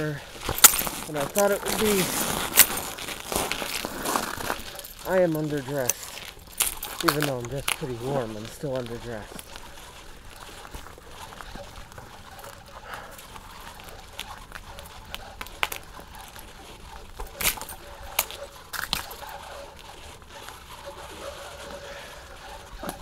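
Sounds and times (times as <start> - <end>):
bicycle tyres crunching on snow: 0.0 - 23.0.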